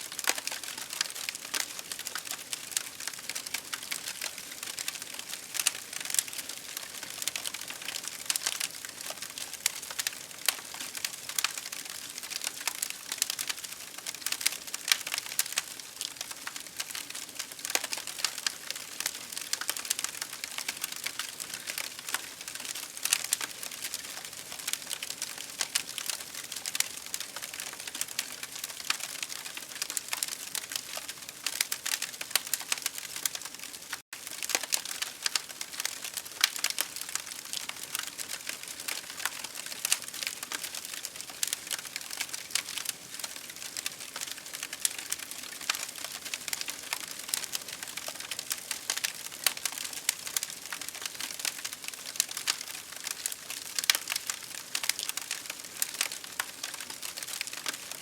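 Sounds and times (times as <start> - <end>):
campfire crackling: 0.1 - 58.0.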